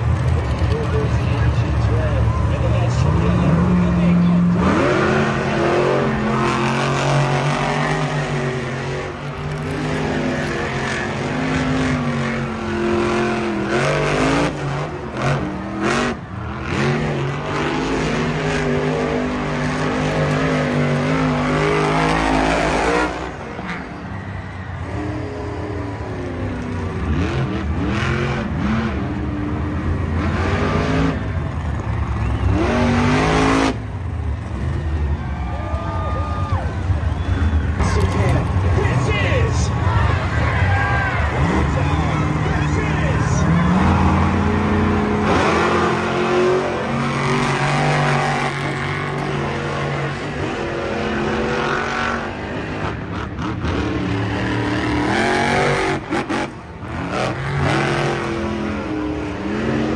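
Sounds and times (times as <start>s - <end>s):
truck engine revving: 0.0s - 35.2s, 36.5s - 59.9s.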